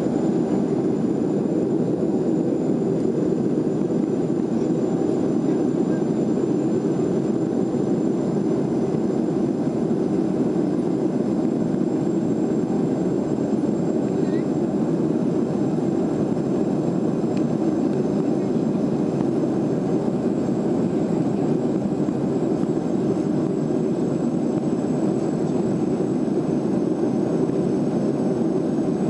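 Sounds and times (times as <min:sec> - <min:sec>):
faint high whine: 0:00.0 - 0:29.0
jet engine cabin rumble: 0:00.0 - 0:29.0.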